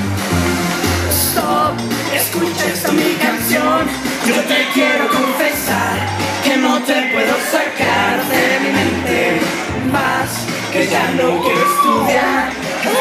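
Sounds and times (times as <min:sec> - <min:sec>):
pop-rock song over loudspeakers: 0:00.0 - 0:13.0
young man singing into microphone: 0:01.2 - 0:13.0.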